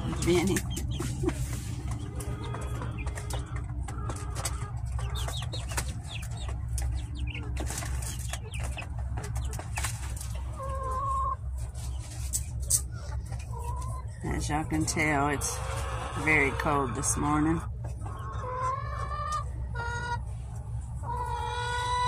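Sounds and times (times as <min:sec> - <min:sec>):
chickens clucking and peeping: 0:00.0 - 0:22.0
steady low hum: 0:00.0 - 0:22.0.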